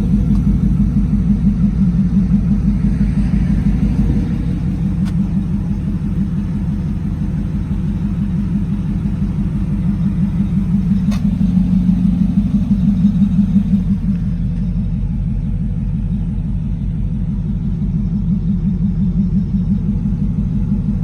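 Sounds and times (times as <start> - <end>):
engine exhaust rumble idling: 0.0 - 21.0.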